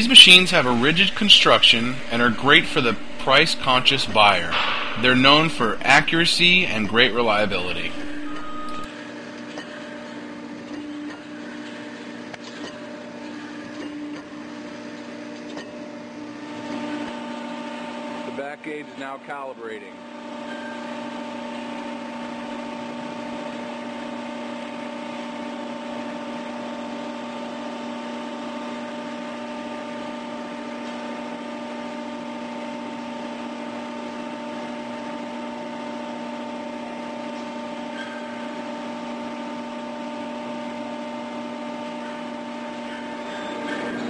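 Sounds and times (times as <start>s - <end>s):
hydraulic unit humming with whine: 0.0s - 18.2s, 20.2s - 44.0s.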